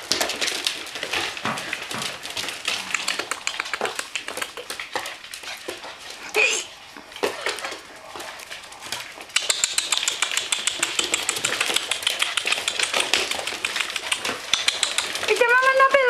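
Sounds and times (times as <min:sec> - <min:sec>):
puppy claws clattering on wood floor: 0:00.0 - 0:06.2, 0:07.0 - 0:16.0.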